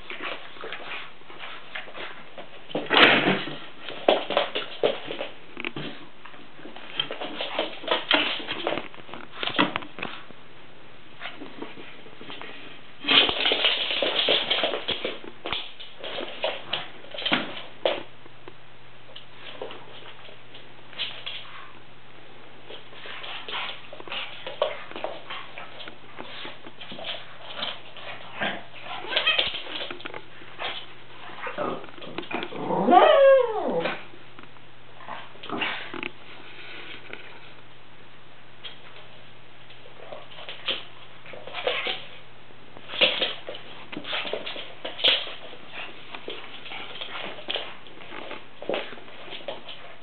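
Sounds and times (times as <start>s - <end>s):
dog and cat scuffling: 0.0s - 10.4s, 11.1s - 18.2s, 19.1s - 37.8s, 38.6s - 50.0s.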